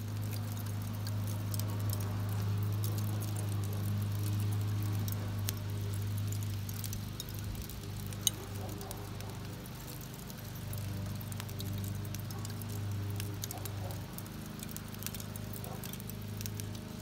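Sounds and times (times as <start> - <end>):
charcoal crackling and popping: 0.0 - 17.0.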